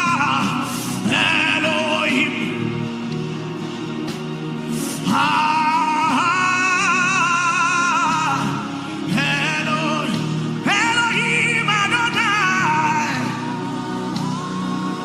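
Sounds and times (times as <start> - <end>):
person singing with vibrato: 0.0 - 3.1, 4.7 - 15.0
sustained musical accompaniment: 0.0 - 15.0.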